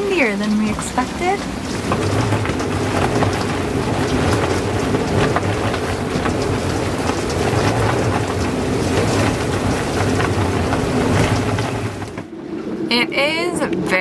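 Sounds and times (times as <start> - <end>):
heavy rain on a boat: 0.0 - 12.3
gusting wind: 0.0 - 14.0.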